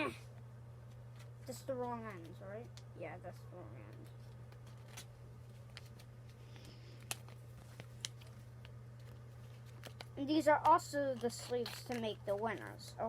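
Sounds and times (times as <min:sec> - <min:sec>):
steady low hum: 0:00.0 - 0:13.0
light card handling sounds: 0:00.3 - 0:02.9, 0:03.6 - 0:12.8.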